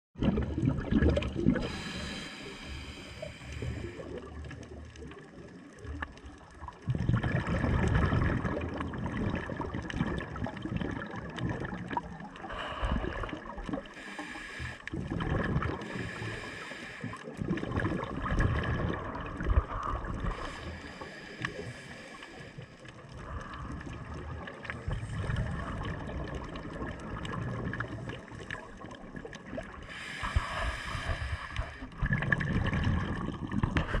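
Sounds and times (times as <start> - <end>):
underwater bubbles gurgling: 0.2 - 34.0.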